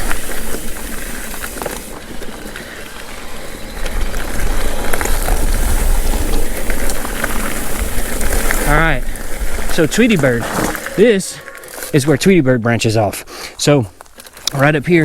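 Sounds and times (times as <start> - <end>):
bike clicks and rattles: 0.0 - 12.1, 13.9 - 15.0
bike tyres on rocky trail: 0.0 - 15.0.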